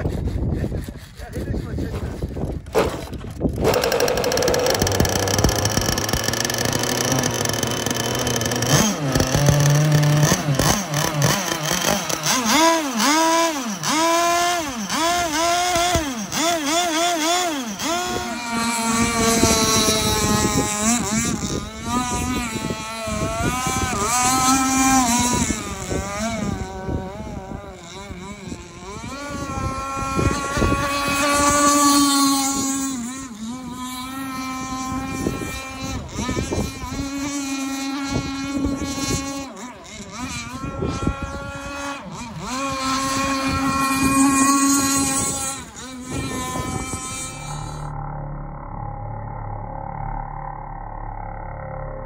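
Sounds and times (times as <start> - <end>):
model speedboat motor running: 0.0 - 52.0.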